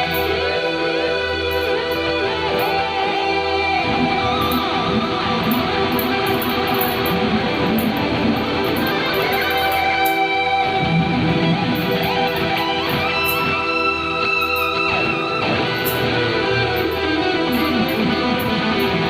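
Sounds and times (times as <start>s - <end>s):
electric guitar with delay and reverb: 0.0s - 19.0s.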